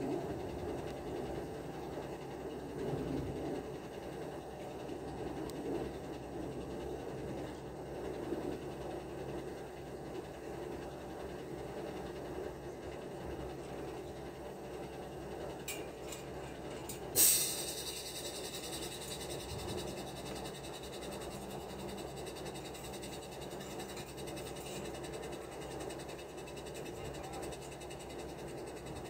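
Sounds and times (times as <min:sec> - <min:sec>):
construction site background noise: 0:00.0 - 0:29.0.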